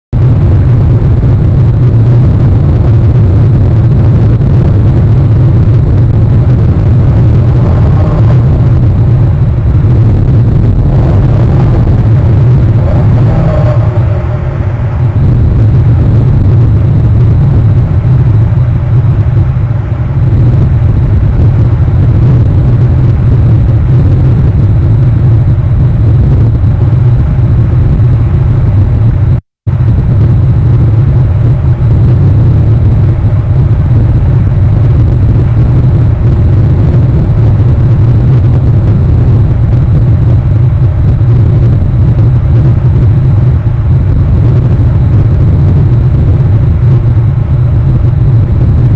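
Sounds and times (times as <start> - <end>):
loud low rumble: 0.0 - 48.9.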